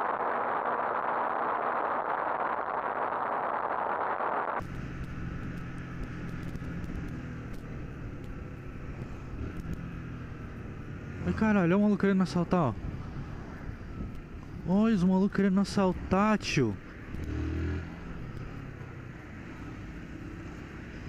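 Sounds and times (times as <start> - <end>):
motorcycle engine low hum: 0.0 - 21.0
wind and road noise: 0.0 - 21.0.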